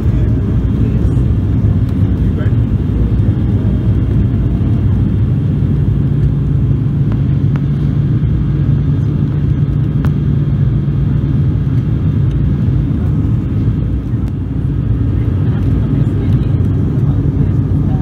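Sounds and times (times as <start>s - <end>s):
turboprop engines droning: 0.0s - 18.0s.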